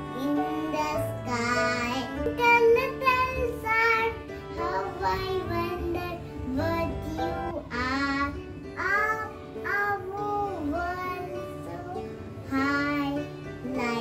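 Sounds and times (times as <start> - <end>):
child singing: 0.0 - 14.0
instrumental backing track: 0.0 - 14.0.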